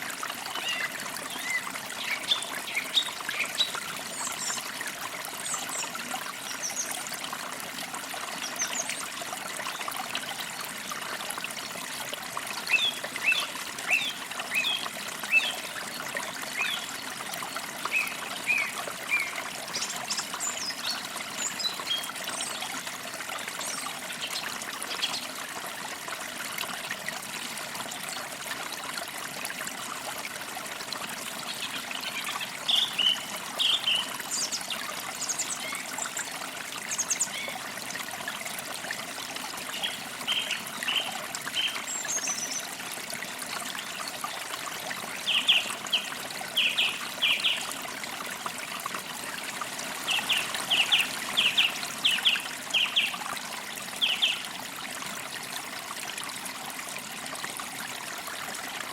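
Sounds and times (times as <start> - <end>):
creek trickling: 0.0 - 58.9.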